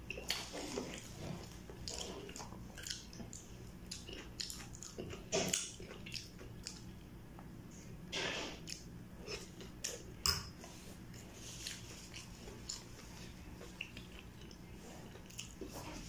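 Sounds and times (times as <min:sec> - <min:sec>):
person chewing food: 0:00.0 - 0:07.5, 0:08.1 - 0:16.0.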